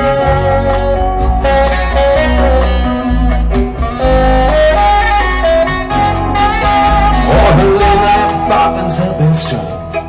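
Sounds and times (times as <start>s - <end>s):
live rock band music: 0.0s - 10.0s.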